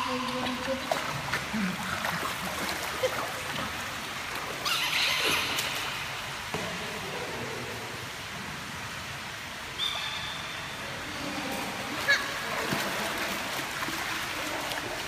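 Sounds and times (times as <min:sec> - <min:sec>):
water splashing and lapping: 0:00.0 - 0:15.0.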